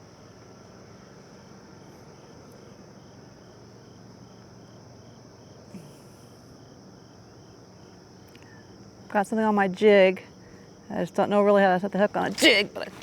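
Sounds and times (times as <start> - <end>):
faint regular insect chirp: 0.0 - 13.0
insects trilling: 0.0 - 13.0.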